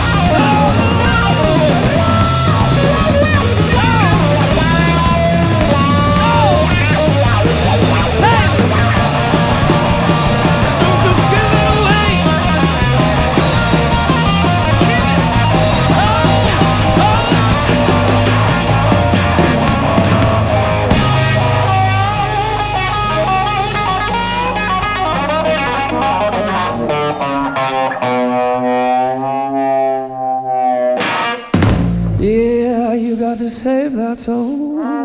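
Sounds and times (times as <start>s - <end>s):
distorted electric guitar: 0.0s - 32.3s
bass: 0.0s - 34.6s
drums: 0.0s - 34.6s.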